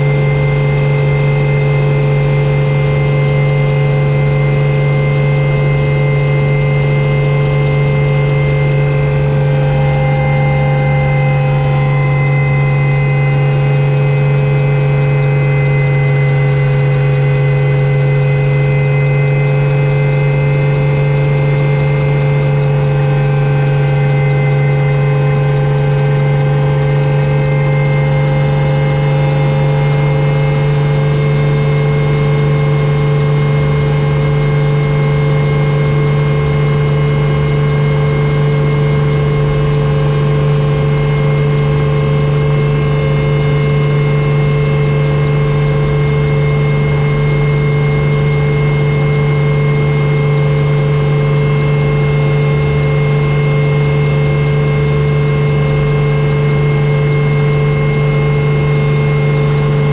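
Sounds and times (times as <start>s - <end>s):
helicopter cabin drone: 0.0s - 59.9s
steady whines: 0.0s - 59.9s.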